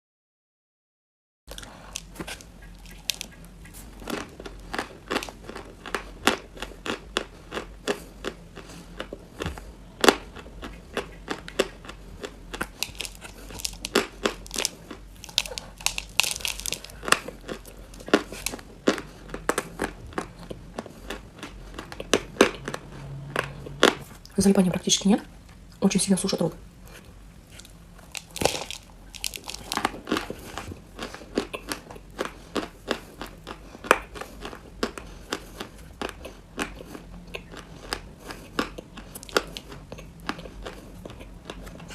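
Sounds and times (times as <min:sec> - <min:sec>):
chalk being chewed: 0:01.5 - 0:24.3, 0:26.8 - 0:41.9.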